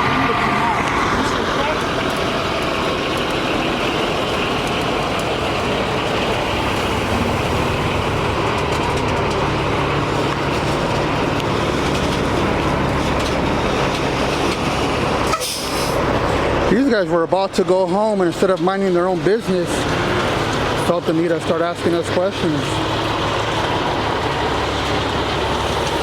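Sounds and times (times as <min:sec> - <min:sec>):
truck diesel engine rumble: 0:00.0 - 0:26.0.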